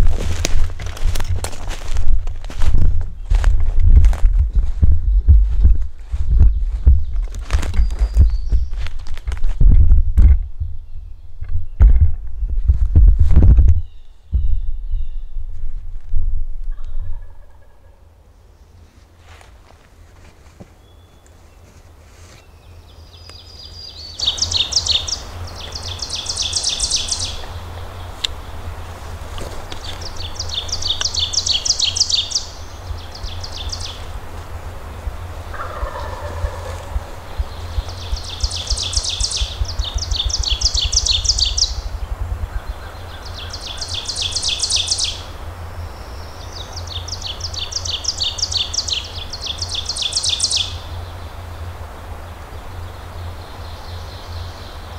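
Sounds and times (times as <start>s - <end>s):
steady low rumble: 0.0s - 18.9s, 22.6s - 54.9s.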